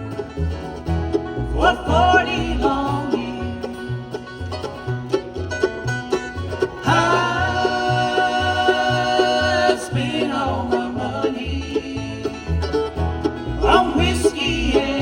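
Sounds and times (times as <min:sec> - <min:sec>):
banjo picking: 0:00.0 - 0:15.0
bluegrass band playing: 0:00.0 - 0:15.0
pulsing bass line: 0:00.0 - 0:15.0.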